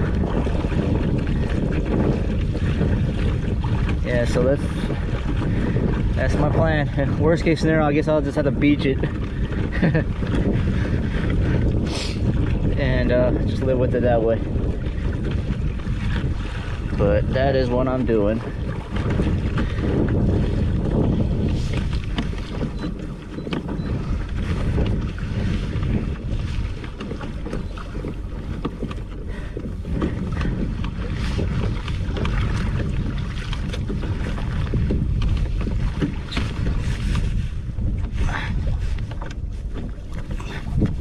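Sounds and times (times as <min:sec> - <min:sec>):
water lapping at hull: 0:00.0 - 0:41.0
wind buffeting microphone: 0:00.0 - 0:41.0.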